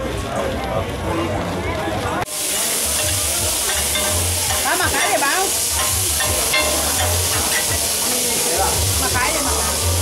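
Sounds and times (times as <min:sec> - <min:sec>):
oil sizzling on a griddle: 0:00.0 - 0:10.0.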